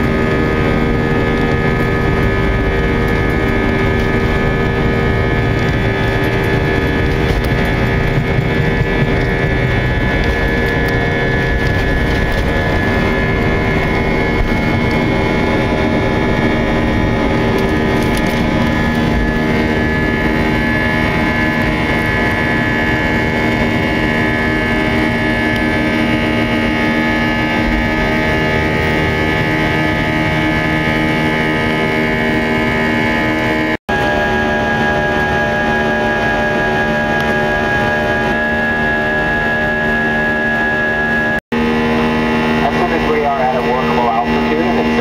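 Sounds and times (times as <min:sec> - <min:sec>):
jet engine noise with whining fan: 0:00.0 - 0:45.0.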